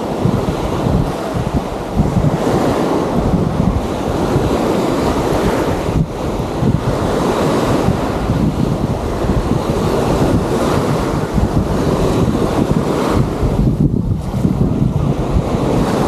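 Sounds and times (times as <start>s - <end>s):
sea waves washing onto beach: 0.0s - 16.0s
wind buffeting microphone: 0.0s - 16.0s.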